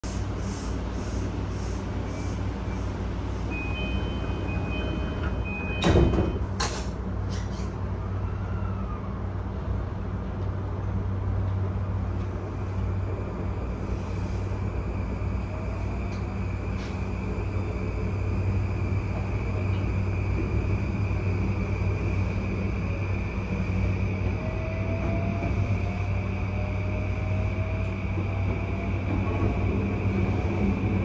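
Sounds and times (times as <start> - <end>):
train interior low hum: 0.0 - 31.0.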